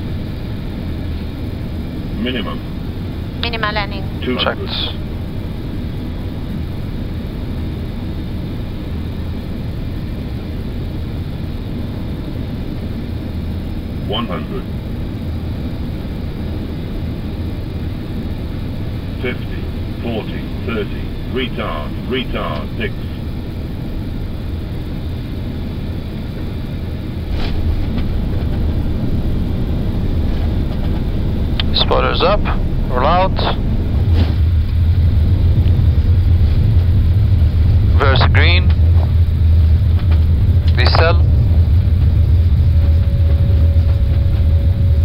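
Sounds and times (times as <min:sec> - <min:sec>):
low cockpit rumble: 0:00.0 - 0:45.0.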